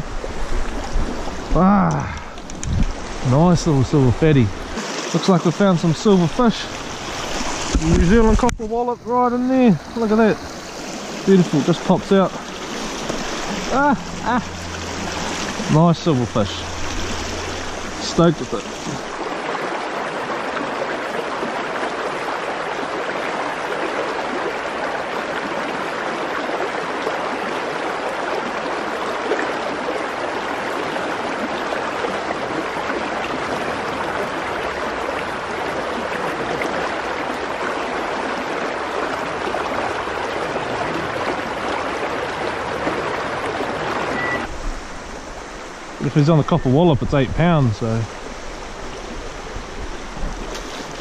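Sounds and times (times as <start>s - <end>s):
river current rushing: 0.0s - 51.0s.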